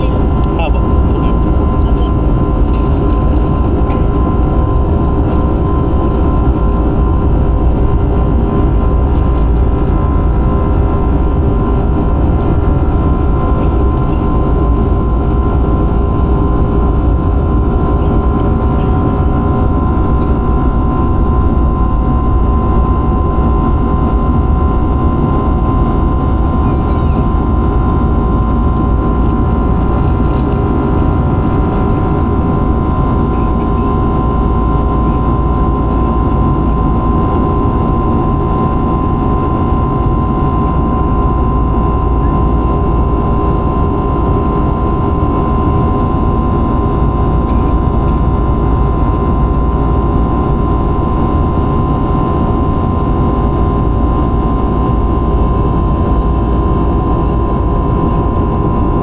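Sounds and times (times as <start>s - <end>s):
jet engine cabin noise: 0.0s - 59.0s
steady hum tones: 0.0s - 59.0s.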